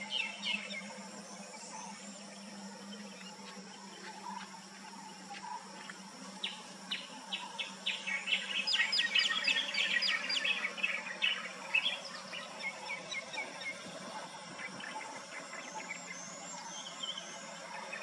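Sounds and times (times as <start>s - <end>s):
wild birds chirping: 0.0s - 18.0s.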